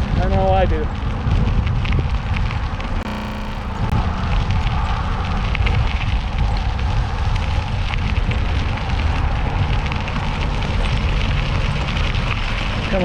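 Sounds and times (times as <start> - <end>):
wind rumbling on microphone: 0.0 - 2.8, 4.5 - 13.0.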